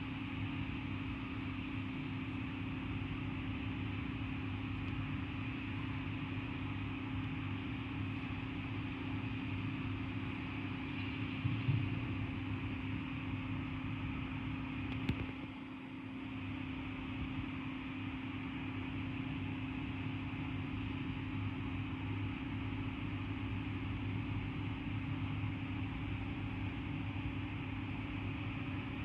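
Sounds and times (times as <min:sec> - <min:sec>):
mechanical hum: 0:00.0 - 0:29.0.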